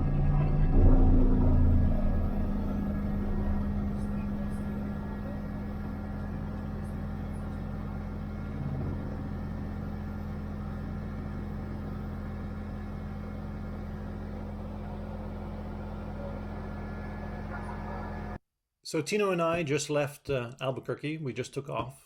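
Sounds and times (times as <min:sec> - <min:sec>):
light aircraft engine and propeller: 0:00.0 - 0:18.4.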